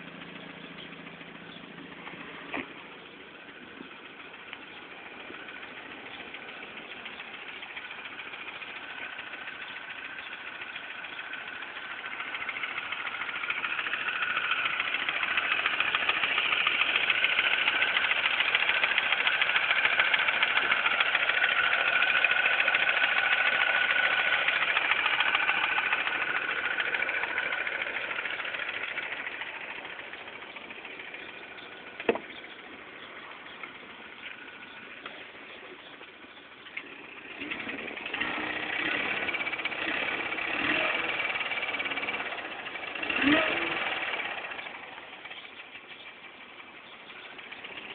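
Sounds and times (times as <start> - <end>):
car engine idling with ticking: 0.0 - 47.9.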